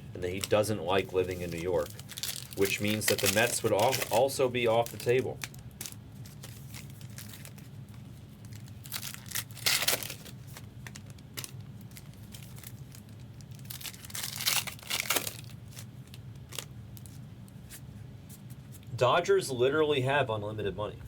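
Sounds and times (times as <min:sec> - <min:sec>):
steady low hum: 0:00.0 - 0:21.0
foil wrappers tearing and crinkling: 0:00.3 - 0:17.2.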